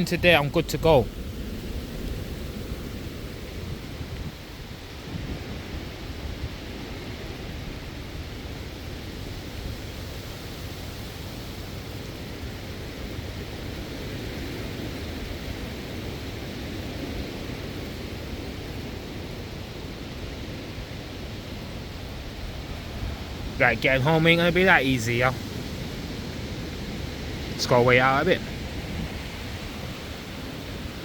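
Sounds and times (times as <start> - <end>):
heavy rain: 0.0 - 31.0
strong wind: 0.0 - 31.0
wind rumbling on microphone: 0.0 - 31.0.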